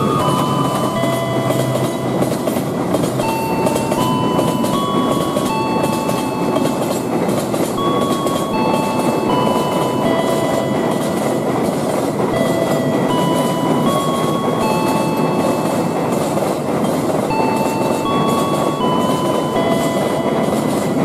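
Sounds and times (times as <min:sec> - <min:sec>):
high tones: 0:00.0 - 0:21.0
train rumbling: 0:00.0 - 0:21.0.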